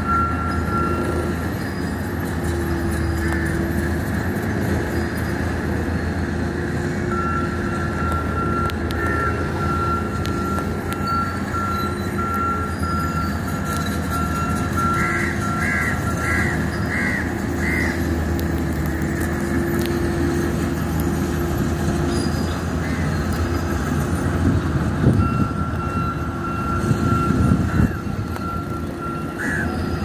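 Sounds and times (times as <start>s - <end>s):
diesel engines droning: 0.0s - 30.0s.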